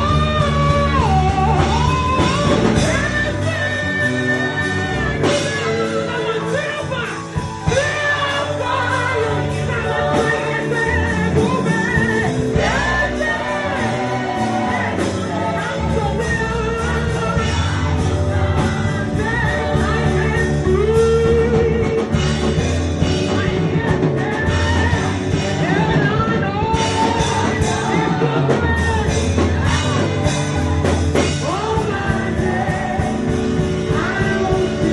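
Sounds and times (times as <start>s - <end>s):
band accompaniment: 0.0s - 34.9s
person singing worship song: 0.0s - 34.9s.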